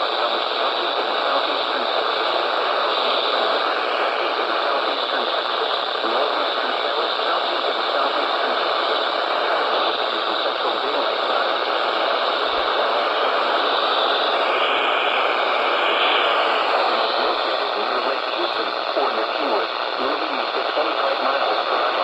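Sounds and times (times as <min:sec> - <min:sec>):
faint voice: 0:00.0 - 0:22.0
radio static hiss: 0:00.0 - 0:22.0.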